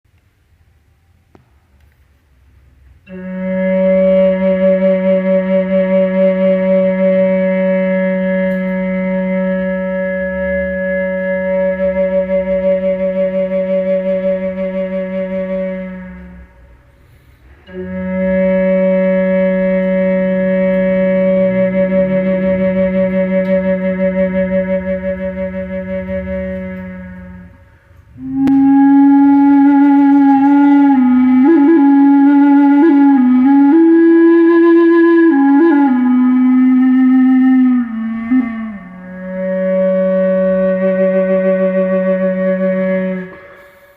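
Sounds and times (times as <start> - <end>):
slow meditation music: 0.1 - 43.9.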